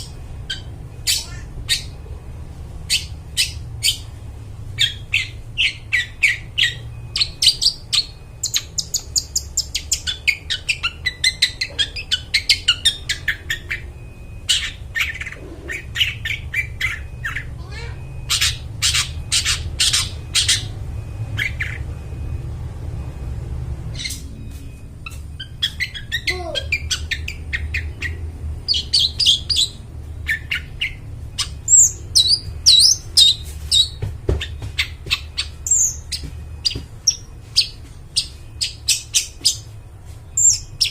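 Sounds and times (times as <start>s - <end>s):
bird singing harsh chattering song: 0.0s - 2.0s, 2.8s - 4.2s, 4.8s - 22.2s, 23.9s - 24.4s, 25.0s - 40.9s.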